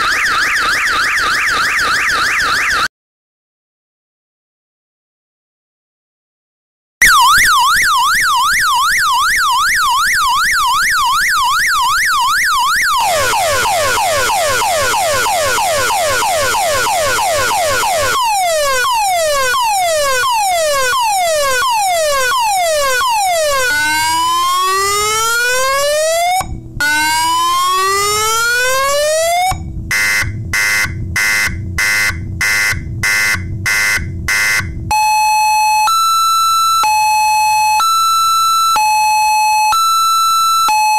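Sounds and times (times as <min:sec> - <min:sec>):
electronic siren horn: 0:07.0 - 0:40.9.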